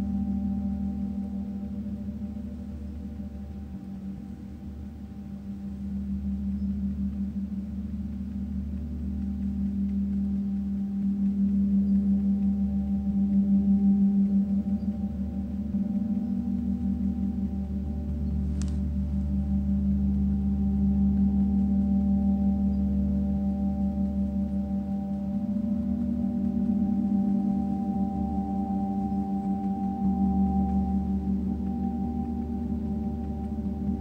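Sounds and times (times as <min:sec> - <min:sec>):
gong sustained low hum: 0:00.0 - 0:34.0.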